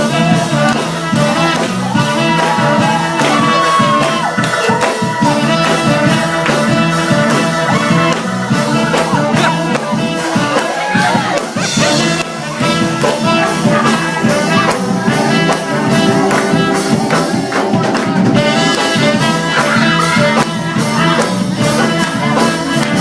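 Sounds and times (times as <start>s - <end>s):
live band with steady beat: 0.0s - 23.0s.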